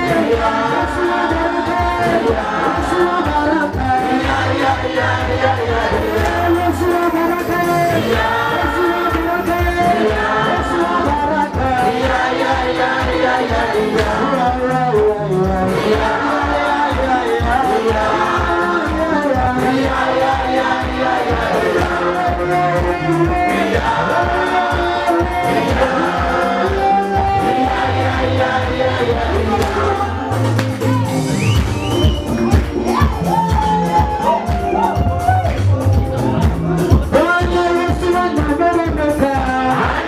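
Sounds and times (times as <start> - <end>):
bass line: 0.0 - 40.0
electronic keyboards: 0.0 - 40.0
fast steady beat: 0.0 - 40.0
lead singer with backing singers: 0.0 - 40.0.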